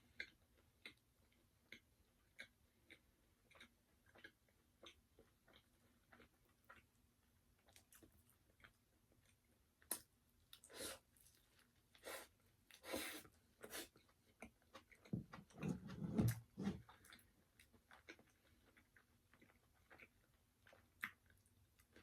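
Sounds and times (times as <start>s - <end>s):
chewing crispy fried chicken: 0.0s - 15.6s, 16.8s - 22.0s.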